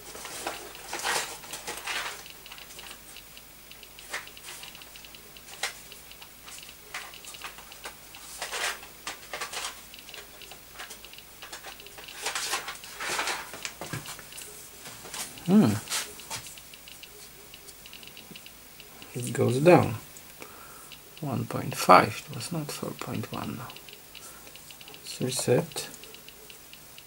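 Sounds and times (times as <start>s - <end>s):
geiger counter clicking: 0.1s - 27.0s.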